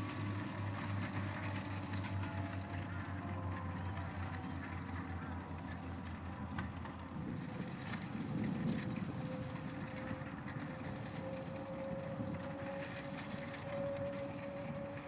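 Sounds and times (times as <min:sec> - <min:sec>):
thin engine whine: 0:00.0 - 0:15.0
tractor diesel engine rumbling: 0:00.0 - 0:15.0.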